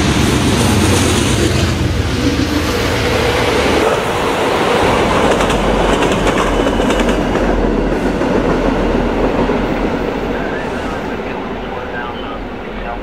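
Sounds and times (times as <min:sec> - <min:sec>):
train cars rumbling on rails: 0:00.0 - 0:13.0.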